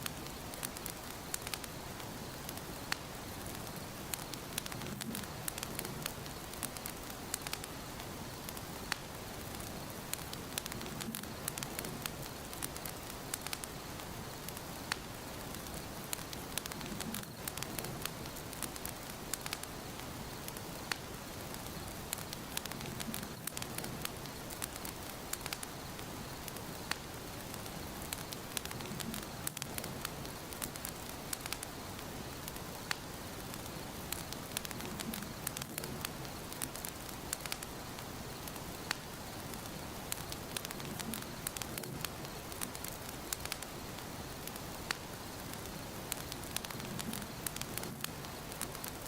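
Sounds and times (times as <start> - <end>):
low rumble of flames: 0.0 - 49.0
steady hiss: 0.0 - 49.0
wood fire crackling: 0.0 - 49.0.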